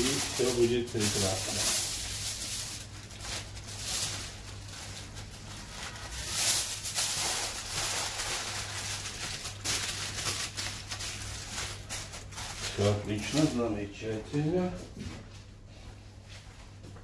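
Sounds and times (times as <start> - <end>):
aluminium foil crinkling: 0.0 - 14.4.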